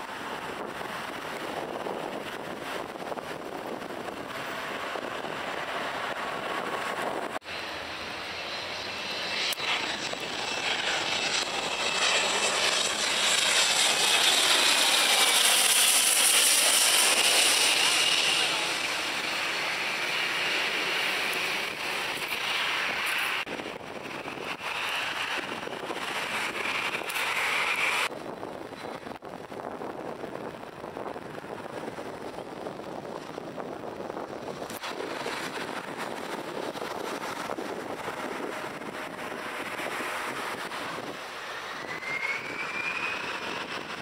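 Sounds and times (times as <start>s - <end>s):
jet engines rumbling and whining: 0.0s - 44.0s.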